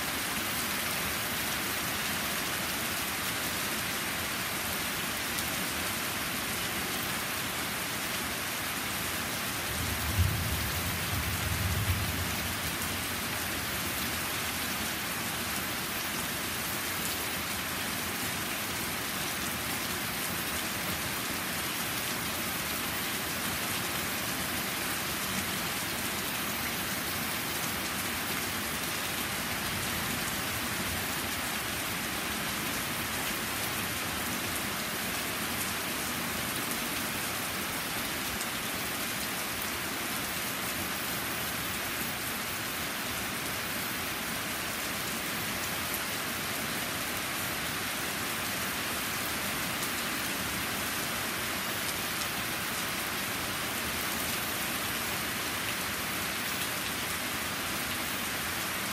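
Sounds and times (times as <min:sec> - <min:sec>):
heavy rain on stone and trees: 0:00.0 - 0:58.9.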